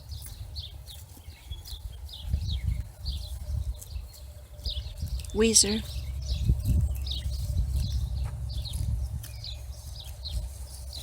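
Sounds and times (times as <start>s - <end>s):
swallows twittering: 0.1s - 11.0s
low uneven rumble: 2.0s - 11.0s.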